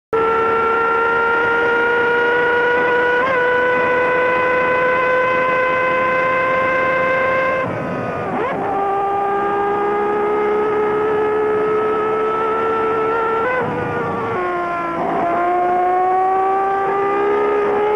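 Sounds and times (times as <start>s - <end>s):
racing car engine revving: 0.2s - 17.9s.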